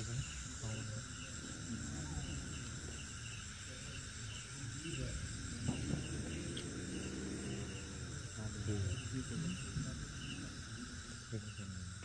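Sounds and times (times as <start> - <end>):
crickets chirping: 0.0 - 12.0
faint distant voices: 0.0 - 12.0.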